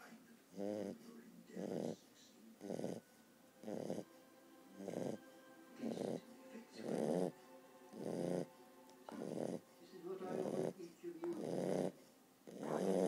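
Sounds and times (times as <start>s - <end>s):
puppy snoring: 0.0s - 4.1s, 4.8s - 5.2s, 5.8s - 8.5s, 9.1s - 13.0s.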